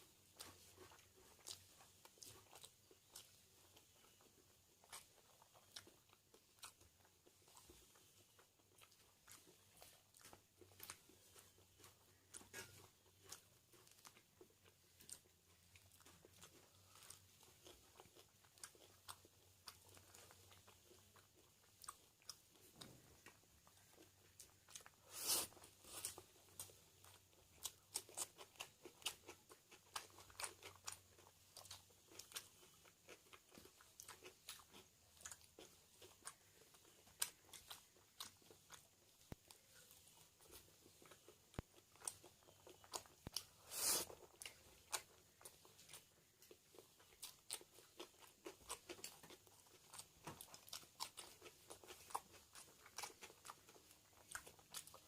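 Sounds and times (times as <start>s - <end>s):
chewing crunchy food: 0.0s - 55.0s.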